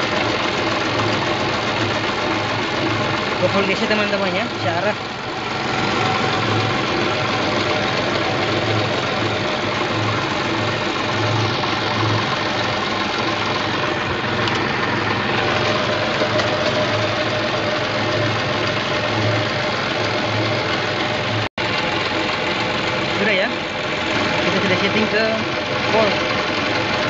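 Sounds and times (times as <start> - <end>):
forklift engine idling: 0.0 - 27.0.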